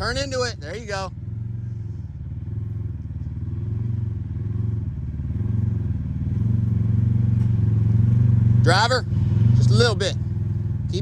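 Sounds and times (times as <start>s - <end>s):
utv engine running at low revs: 0.0s - 11.0s.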